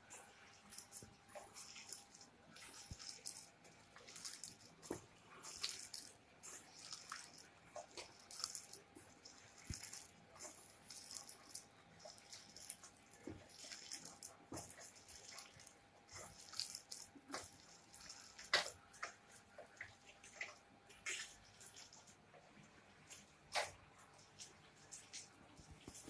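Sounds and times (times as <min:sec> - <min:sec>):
wet squishing of mashed potatoes: 0:00.0 - 0:26.0.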